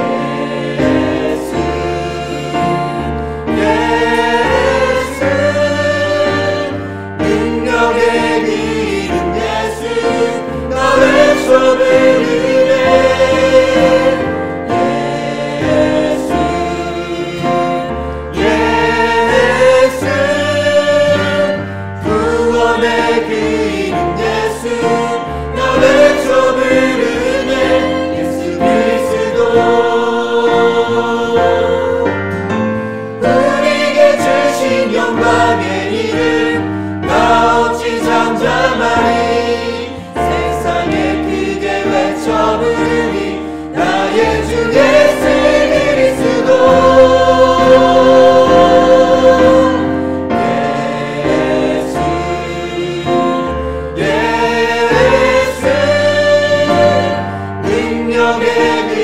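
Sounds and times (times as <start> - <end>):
instrumental accompaniment: 0.0 - 59.0
mixed choir singing: 0.0 - 59.0.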